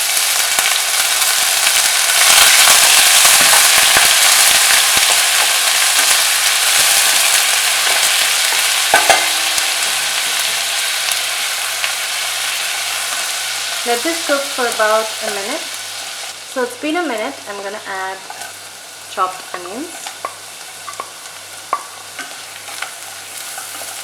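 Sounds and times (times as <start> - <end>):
paste sizzling in hot oil: 0.0 - 24.0.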